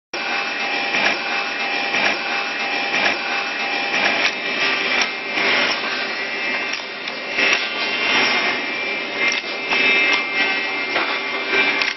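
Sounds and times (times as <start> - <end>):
drilling machine motor whine: 0.2 - 11.9.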